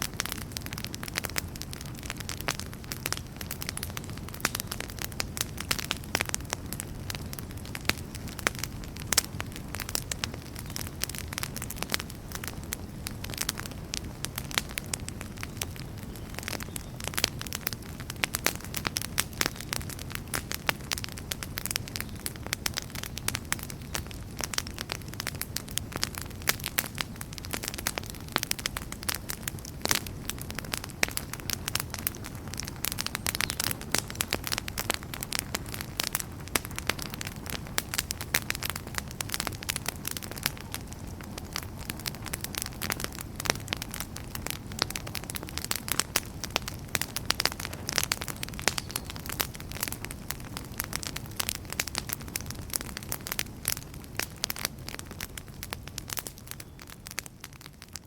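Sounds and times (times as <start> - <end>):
campfire pops and crackles: 0.0 - 58.0
low rumble of flame: 0.0 - 58.0.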